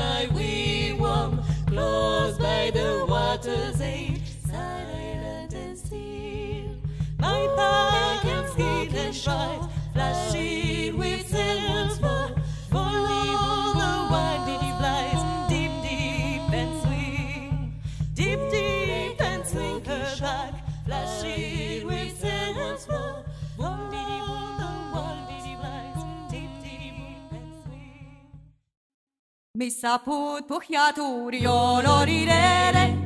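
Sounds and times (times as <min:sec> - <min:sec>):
women singing in harmony: 0:00.0 - 0:28.2, 0:30.0 - 0:33.0
percussion: 0:00.0 - 0:28.6, 0:31.4 - 0:33.0.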